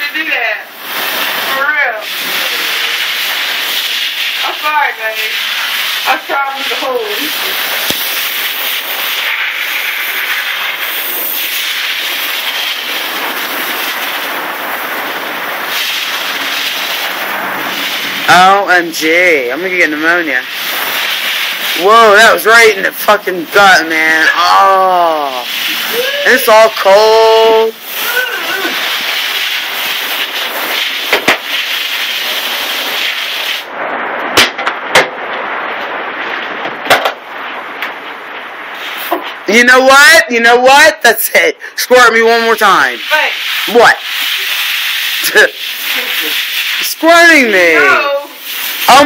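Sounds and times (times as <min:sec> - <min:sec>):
garden hose spraying water: 0:00.0 - 0:33.7, 0:38.6 - 0:49.0.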